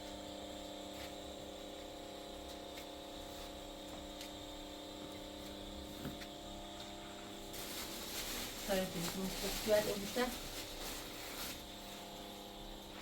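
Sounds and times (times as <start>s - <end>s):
steady hum of held tones: 0.0s - 13.0s.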